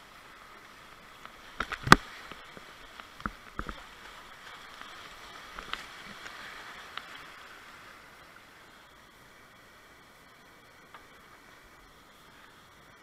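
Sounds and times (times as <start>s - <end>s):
whitewater rapids roaring: 0.0s - 13.0s.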